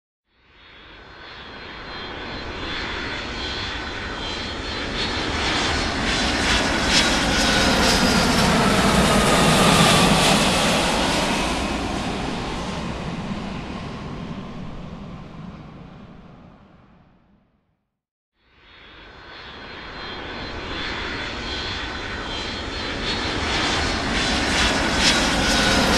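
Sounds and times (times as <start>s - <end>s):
airplane flying by: 0.7s - 17.6s, 18.6s - 25.9s.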